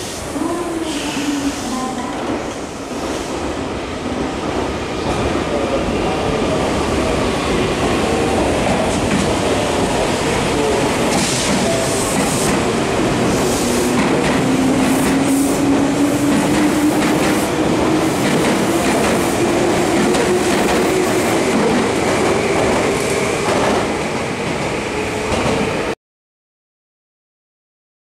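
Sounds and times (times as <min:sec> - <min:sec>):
train cars rumbling: 0:00.4 - 0:25.8.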